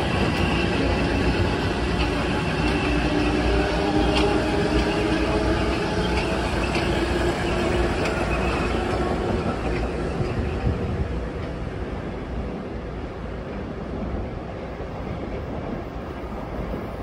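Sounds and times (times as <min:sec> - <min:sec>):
train hum: 0:00.0 - 0:17.0
train rumbling past: 0:00.0 - 0:17.0.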